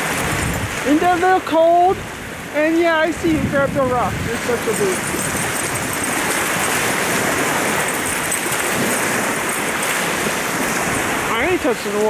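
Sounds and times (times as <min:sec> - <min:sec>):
waves washing in: 0:00.0 - 0:12.0.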